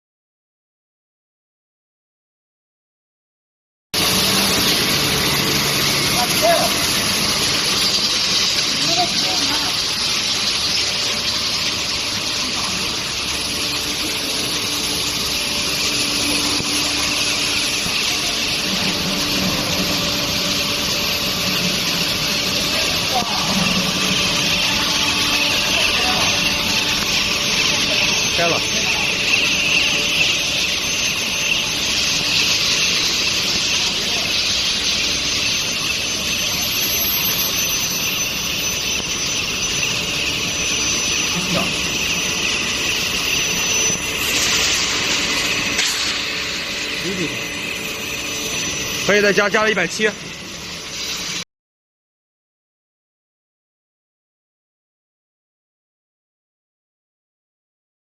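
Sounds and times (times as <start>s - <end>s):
machinery hissing: 4.0s - 51.4s
high steady whine: 4.0s - 51.5s.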